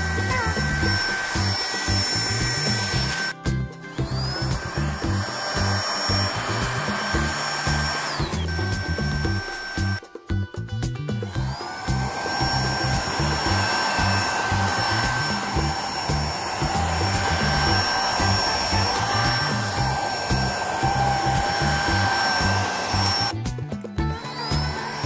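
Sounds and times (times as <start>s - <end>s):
vacuum cleaner motor whine: 0.0s - 10.0s, 11.2s - 23.4s, 24.0s - 25.0s
background music with beat: 0.0s - 25.0s.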